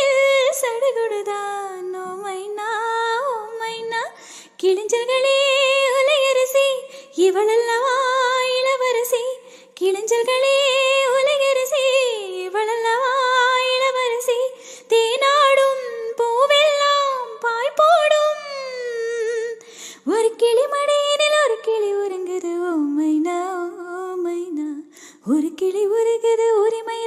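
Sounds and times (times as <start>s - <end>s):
woman singing wordless melody: 0.0s - 27.0s.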